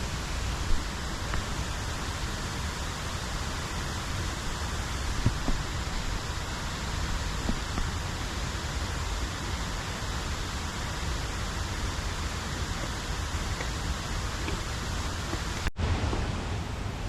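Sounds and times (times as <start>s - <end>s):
river water flowing over rocks: 0.0s - 17.0s.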